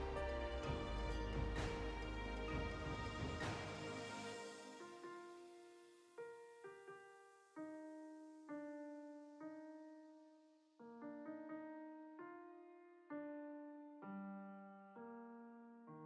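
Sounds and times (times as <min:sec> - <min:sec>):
soft solo piano music: 0:00.0 - 0:05.4, 0:06.2 - 0:16.0.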